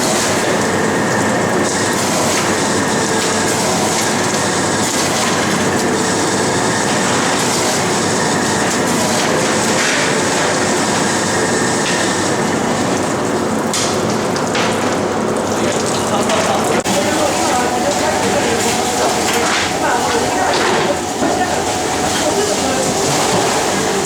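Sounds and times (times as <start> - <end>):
fish filleting machine clattering: 0.0 - 24.0.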